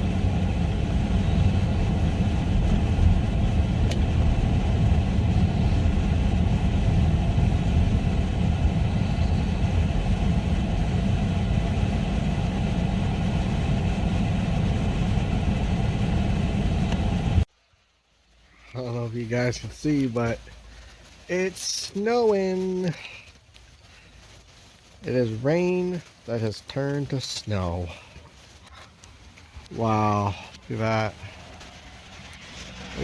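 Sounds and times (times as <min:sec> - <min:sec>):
car engine rumbling: 0:00.0 - 0:17.6, 0:18.3 - 0:33.0.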